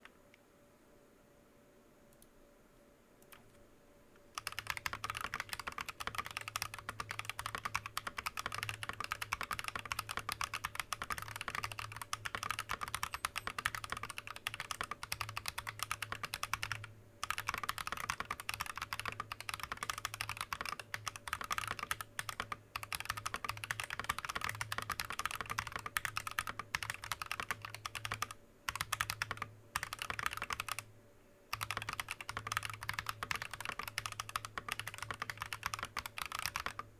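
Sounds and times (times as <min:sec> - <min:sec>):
fast typing on mechanical keyboard: 0:04.4 - 0:30.9, 0:31.5 - 0:36.9.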